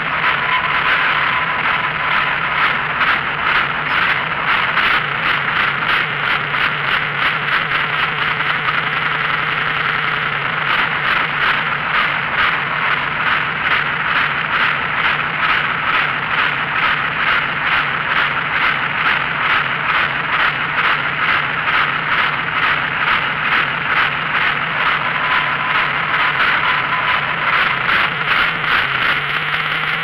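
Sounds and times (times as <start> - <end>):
diesel tractor idling: 0.0 - 30.0
steady pulsing rattle: 0.0 - 30.0.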